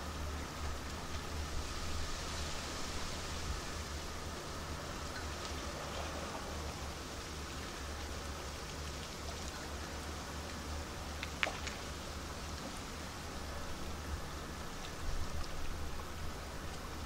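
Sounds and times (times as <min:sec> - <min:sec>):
ship engine hum: 0:00.0 - 0:17.0
ventilation and water hiss: 0:00.0 - 0:17.0.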